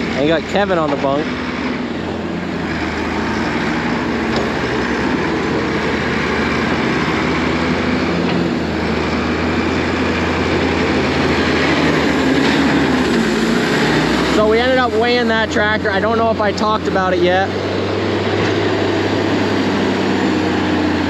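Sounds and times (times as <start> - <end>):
tractor diesel engines running: 0.0 - 21.0.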